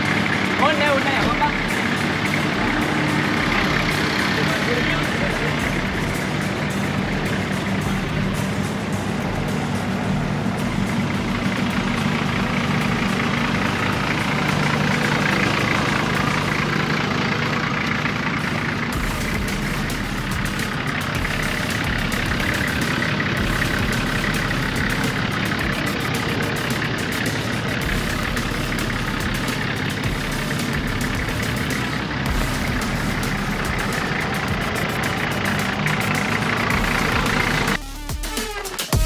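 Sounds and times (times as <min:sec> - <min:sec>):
engine running at low revs: 0:00.0 - 0:39.0.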